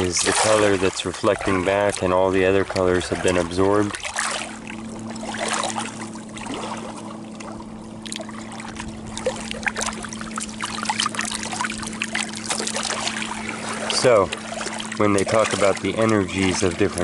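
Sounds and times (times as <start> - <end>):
small splashes and drips: 0.0 - 17.0
steady low hum: 0.0 - 17.0
water lapping among rocks: 0.0 - 17.0.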